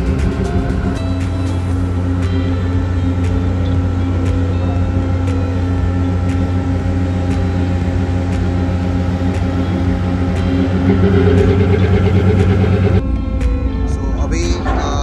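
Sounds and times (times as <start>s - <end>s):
machinery low hum: 0.0s - 15.0s.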